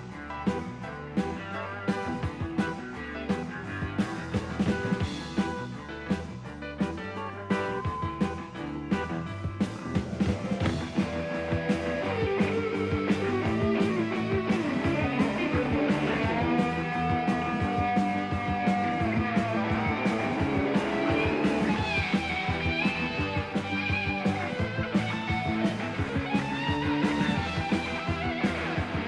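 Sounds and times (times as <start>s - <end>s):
bending lead guitar line: 0.0s - 29.0s
rock band playing: 0.0s - 29.0s.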